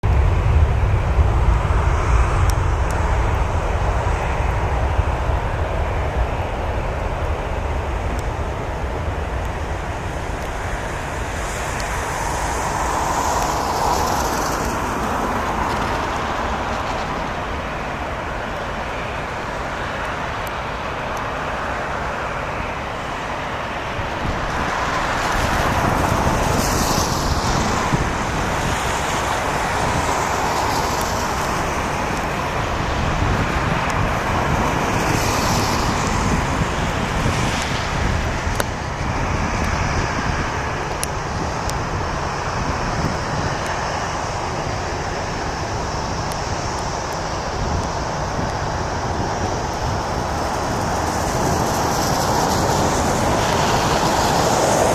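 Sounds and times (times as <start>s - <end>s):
hissing swoosh of passing vehicles: 0.1s - 54.9s.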